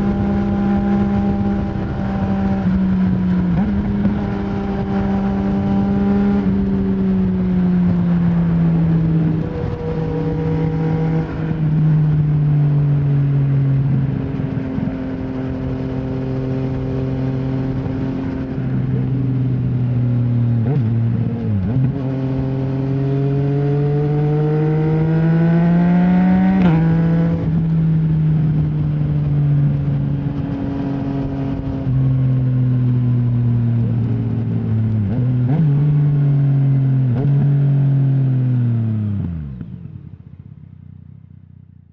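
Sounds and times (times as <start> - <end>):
motorcycle engine revving: 0.0 - 41.4.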